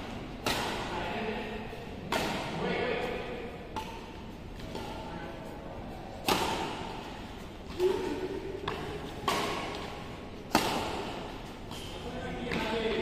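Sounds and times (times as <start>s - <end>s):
racket hitting shuttlecock: 0.0s - 5.0s, 6.1s - 12.8s.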